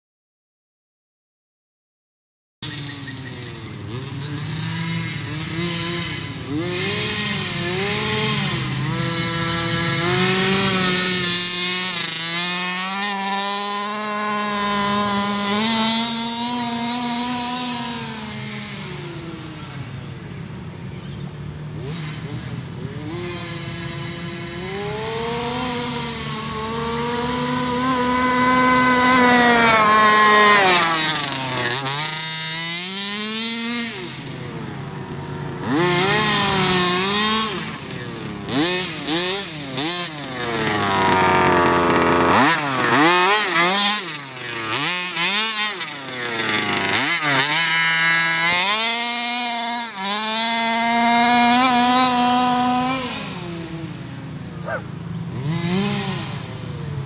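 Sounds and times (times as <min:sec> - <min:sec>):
small engine revving: 0:02.6 - 0:57.0.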